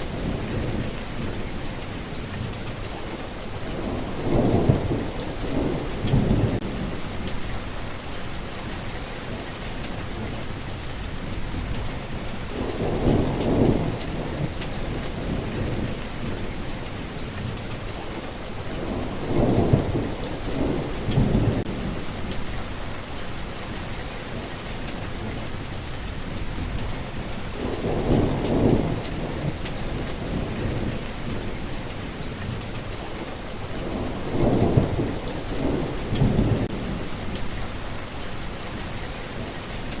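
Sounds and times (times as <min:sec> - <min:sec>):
thunder rumbling: 0:00.0 - 0:02.9, 0:03.6 - 0:17.9, 0:18.6 - 0:33.0, 0:33.6 - 0:40.0
rain hissing on surfaces: 0:00.0 - 0:40.0.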